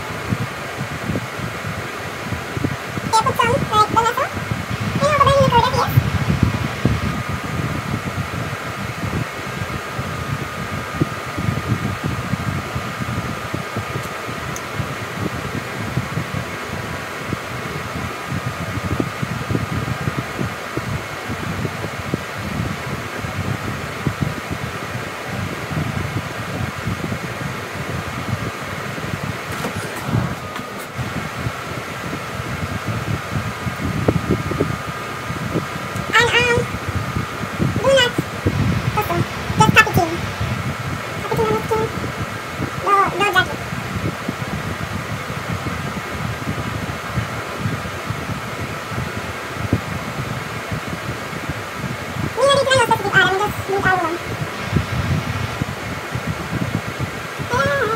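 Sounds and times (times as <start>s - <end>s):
fan humming: 0.0s - 57.9s.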